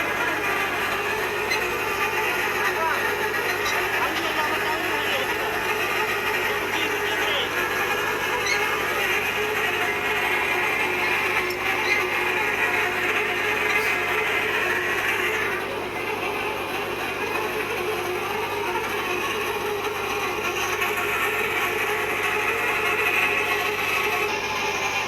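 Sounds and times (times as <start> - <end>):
pipe tapping machine working: 0.0 - 25.0.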